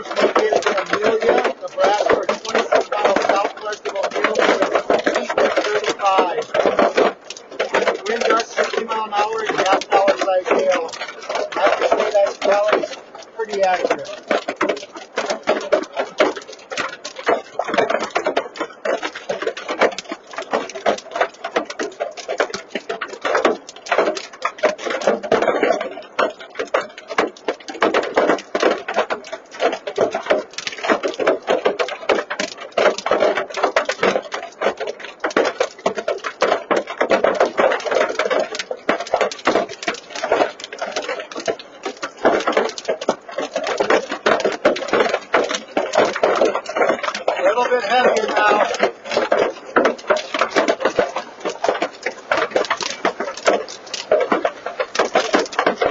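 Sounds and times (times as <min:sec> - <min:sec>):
hail pelting a truck: 0:00.0 - 0:55.9.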